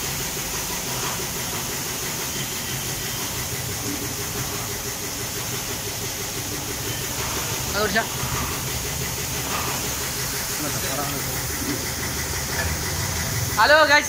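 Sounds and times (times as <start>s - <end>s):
pressure washer spray hissing: 0.0s - 14.0s.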